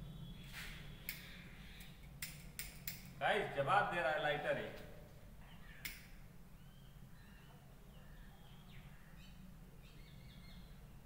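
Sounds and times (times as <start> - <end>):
small birds chirping: 0.0 - 3.2, 5.2 - 11.0
low steady hum: 0.0 - 11.0.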